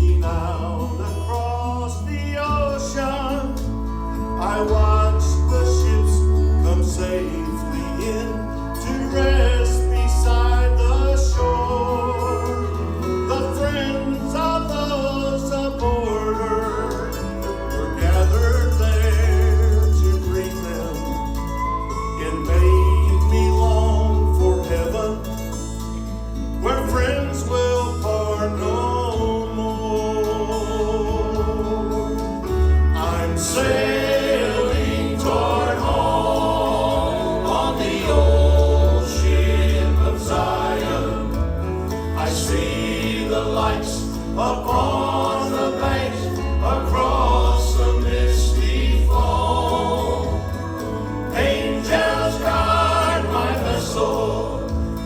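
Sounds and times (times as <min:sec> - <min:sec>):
gospel quartet singing in harmony: 0:00.0 - 0:55.0
instrumental accompaniment: 0:00.0 - 0:55.0
prominent bass line: 0:00.0 - 0:55.0.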